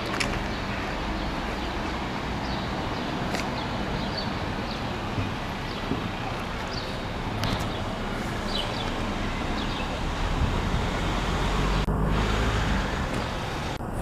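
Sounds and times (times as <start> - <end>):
street traffic: 0.0 - 14.0
wind rumbling on microphone: 1.9 - 14.0.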